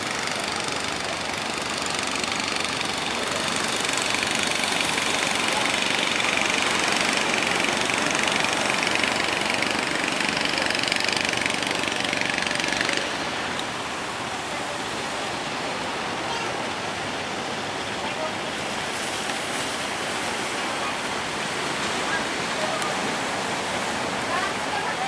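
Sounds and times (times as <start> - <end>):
boat engines running: 0.0 - 25.0
surf rushing: 0.0 - 25.0.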